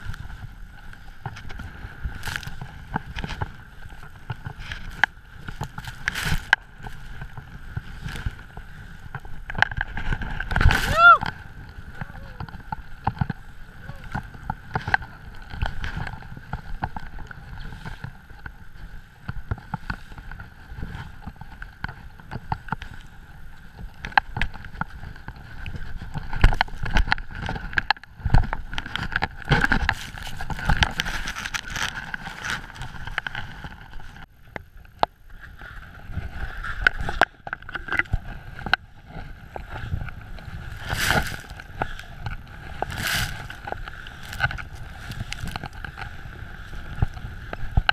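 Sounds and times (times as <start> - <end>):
skis running through powder snow: 0.0 - 34.2, 38.2 - 47.9
wind buffeting microphone: 0.0 - 47.9.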